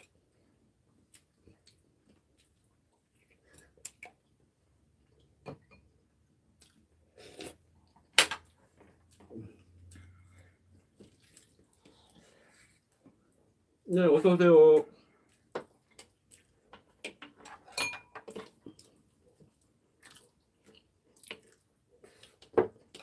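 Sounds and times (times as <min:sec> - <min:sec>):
quiet chewing: 0:00.0 - 0:05.4, 0:06.5 - 0:13.5, 0:14.9 - 0:17.4, 0:18.3 - 0:23.0.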